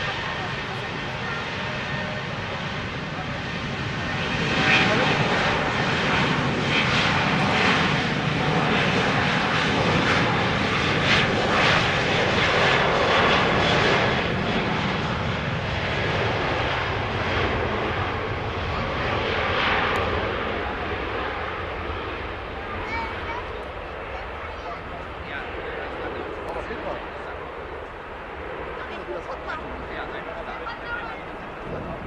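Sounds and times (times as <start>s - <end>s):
jet engines at takeoff power: 0.0s - 32.0s.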